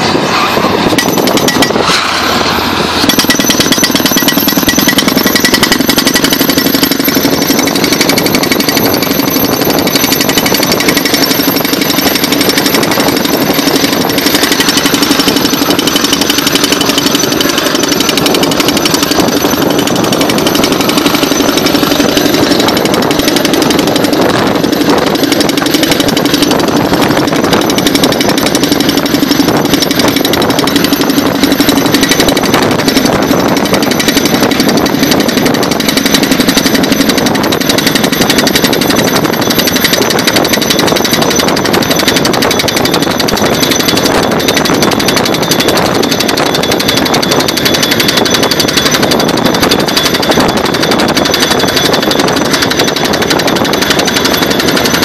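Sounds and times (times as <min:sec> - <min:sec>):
air hammer drilling: 0:00.0 - 0:55.0.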